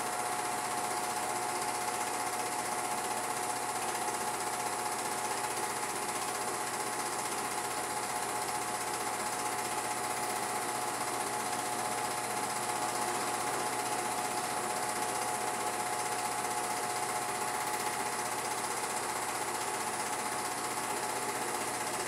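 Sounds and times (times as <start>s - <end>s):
film projector whirring: 0.0s - 22.0s.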